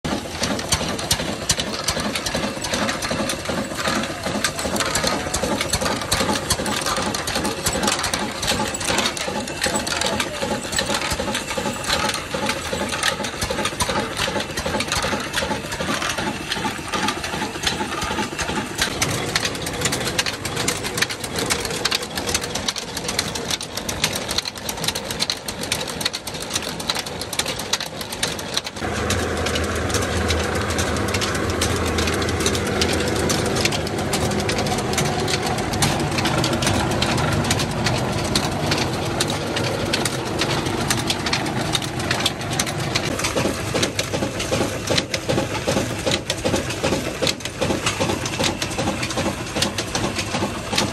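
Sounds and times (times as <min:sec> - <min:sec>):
belts and gears clattering: 0:00.0 - 0:50.9
diesel engine running: 0:00.0 - 0:50.9.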